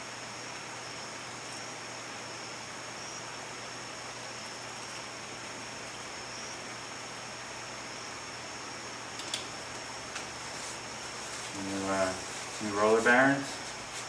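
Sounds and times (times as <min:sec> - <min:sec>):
high-pitched whine: 0:00.0 - 0:14.0
steady background hiss: 0:00.0 - 0:14.0.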